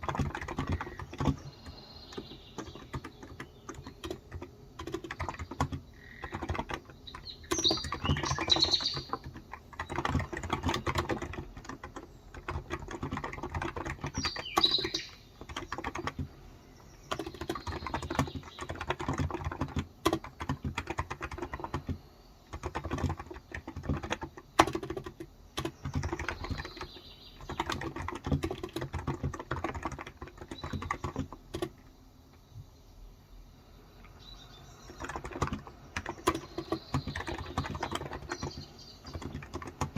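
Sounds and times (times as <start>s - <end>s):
keyboard typing: 0.0s - 31.9s, 34.8s - 39.9s
birds chirping: 0.0s - 39.9s.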